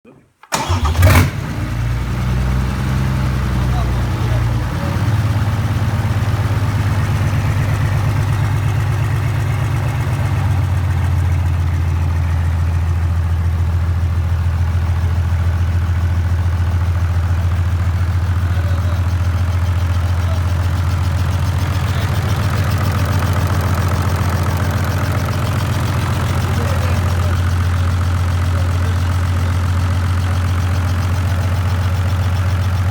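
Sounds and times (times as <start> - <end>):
diesel engine idling: 0.5 - 32.9.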